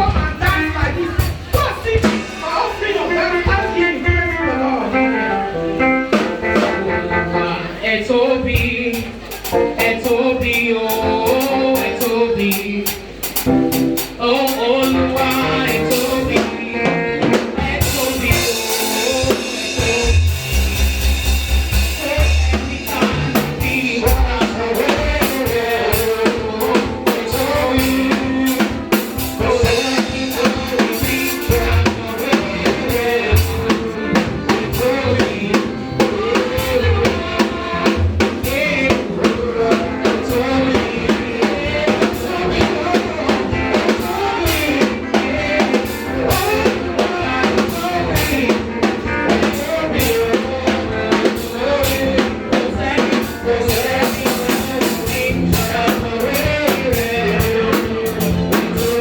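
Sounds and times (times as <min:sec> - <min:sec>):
praise music with drum kit: 0:00.0 - 0:59.0.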